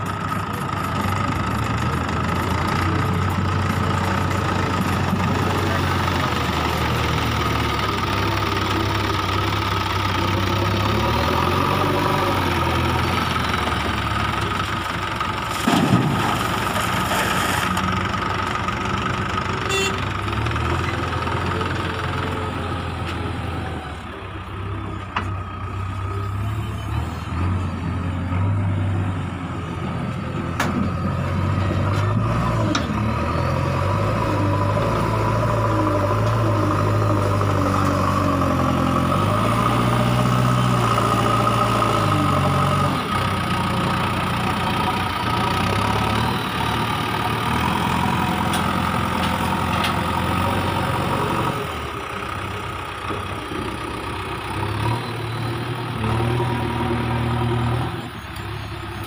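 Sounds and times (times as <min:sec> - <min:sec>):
diesel engine working under load: 0:00.0 - 0:59.0.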